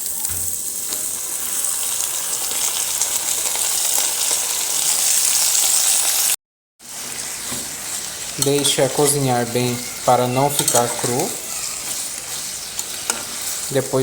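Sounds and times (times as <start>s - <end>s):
sausage and onion sizzling in pan: 0.0s - 14.0s.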